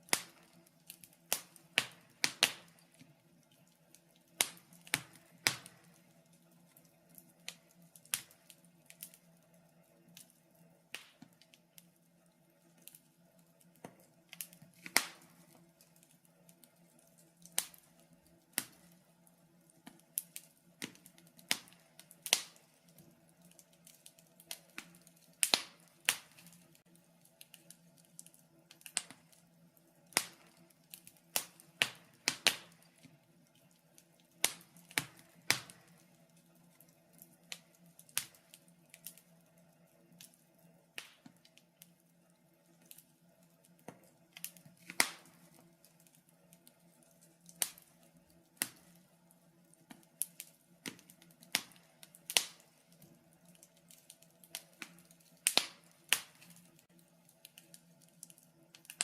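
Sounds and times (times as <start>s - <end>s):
faint steady low hum: 0.0s - 59.0s
wood fire crackling: 0.0s - 59.0s.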